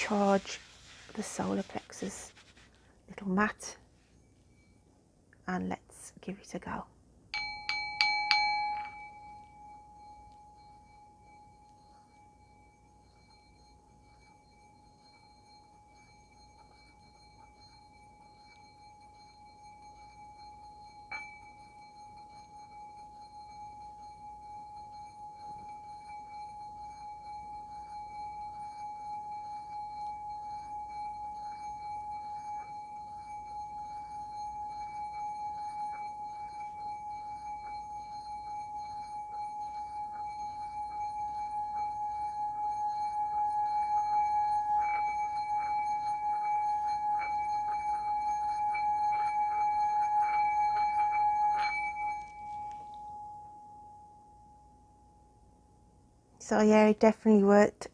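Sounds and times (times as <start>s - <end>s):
singing bowl ringing tone: 0.0s - 5.0s, 7.3s - 57.9s.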